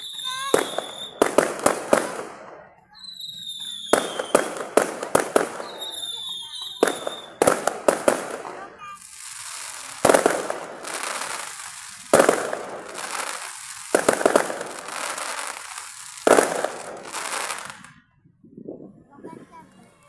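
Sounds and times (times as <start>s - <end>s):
fireworks bangs: 0.0s - 18.0s
fireworks crackling hiss: 0.0s - 18.0s.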